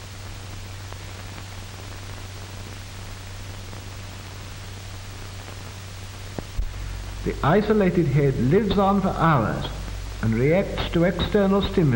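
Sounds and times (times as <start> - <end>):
film soundtrack hiss and hum: 0.0 - 11.9.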